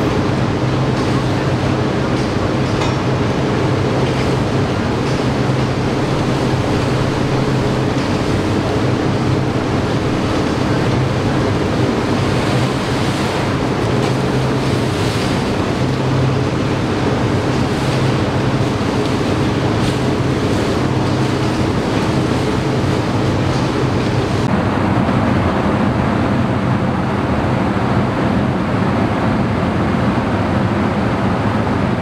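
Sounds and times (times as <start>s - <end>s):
fans rushing air: 0.0s - 32.0s
low machine hum: 0.0s - 32.0s.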